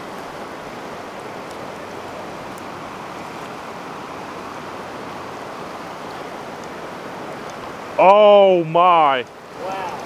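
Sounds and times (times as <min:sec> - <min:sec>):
creek water rushing over rapids: 0:00.0 - 0:10.0.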